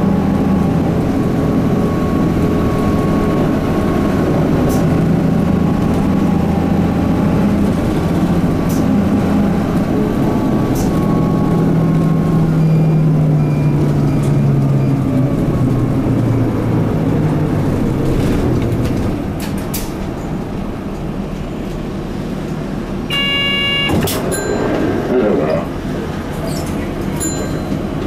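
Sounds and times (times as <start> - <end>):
bus diesel engine running: 0.0 - 28.0
road noise: 0.0 - 28.0.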